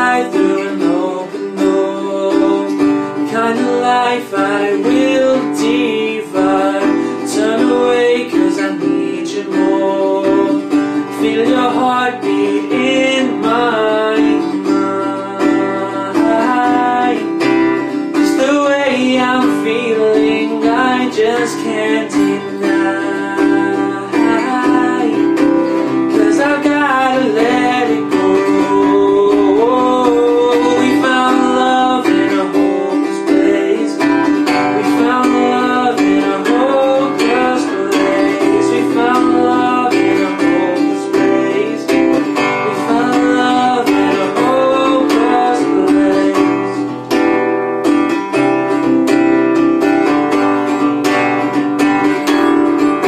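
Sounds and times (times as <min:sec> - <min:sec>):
acoustic guitar strumming: 0:00.0 - 0:53.0
person singing: 0:00.0 - 0:53.0.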